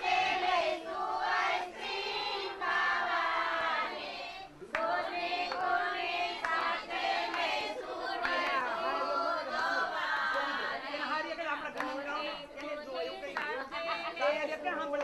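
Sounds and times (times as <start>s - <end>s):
women singing unaccompanied: 0.0s - 15.0s.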